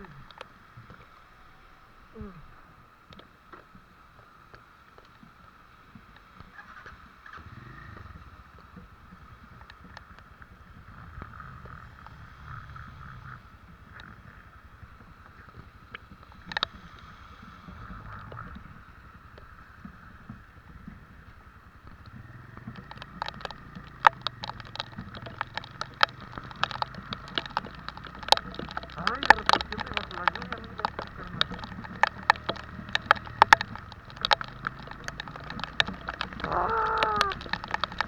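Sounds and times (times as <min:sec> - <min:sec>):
raindrops striking microphone: 0:03.1 - 0:38.0
motorcycle engine rumble: 0:06.6 - 0:38.0.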